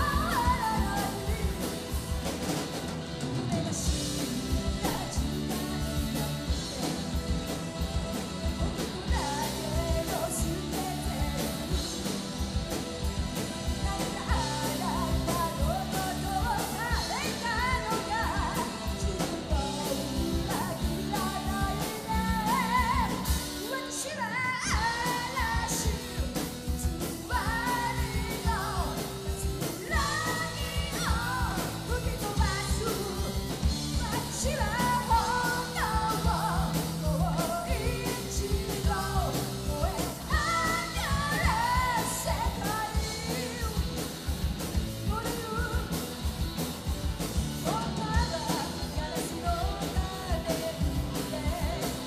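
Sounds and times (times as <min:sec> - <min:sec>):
woman singing: 0:00.0 - 0:02.4, 0:03.6 - 0:52.0
electric bass: 0:00.0 - 0:52.0
steady drum beat: 0:00.0 - 0:52.0.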